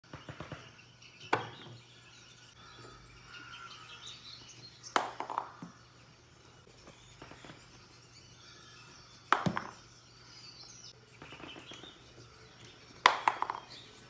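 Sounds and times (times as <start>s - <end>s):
faint bird chirping: 0.0s - 14.0s.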